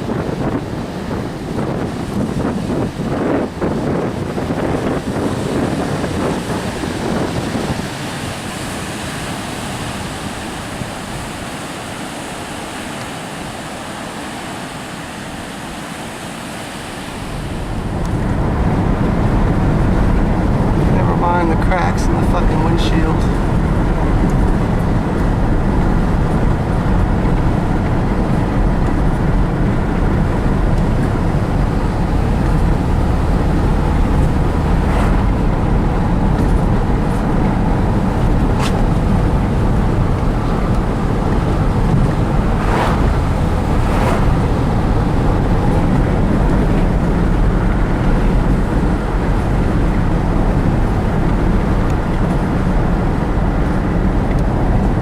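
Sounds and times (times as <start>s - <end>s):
truck road and engine noise: 0.0s - 55.0s.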